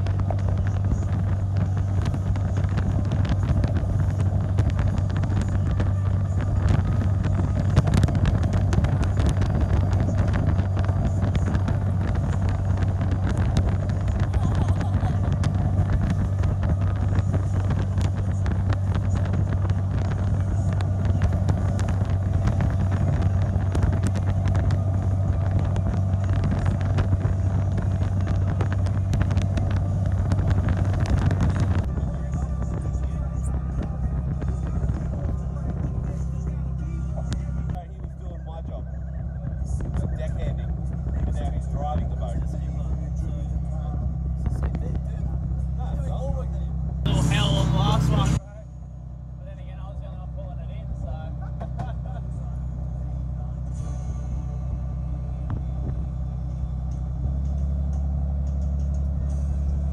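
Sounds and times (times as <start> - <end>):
wind noise on microphone: 0.0 - 48.4, 50.9 - 59.9
boat engine droning: 0.0 - 59.9.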